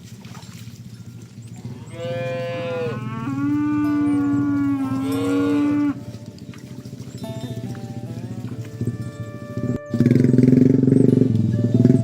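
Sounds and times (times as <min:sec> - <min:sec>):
oxen mooing: 0:01.6 - 0:12.0.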